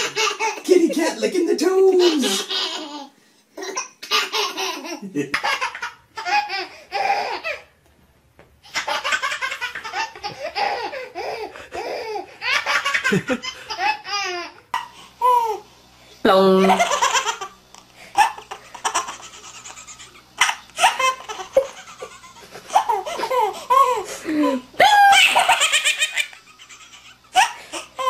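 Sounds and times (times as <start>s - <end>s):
babies laughing: 0.0s - 0.9s, 1.8s - 7.7s, 8.7s - 15.7s, 16.6s - 28.0s.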